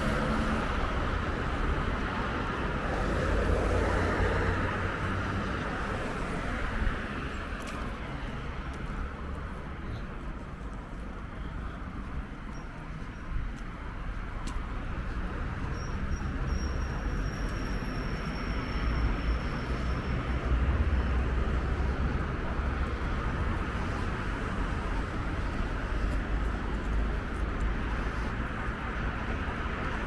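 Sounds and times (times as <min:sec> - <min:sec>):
road traffic: 0:00.0 - 0:30.0.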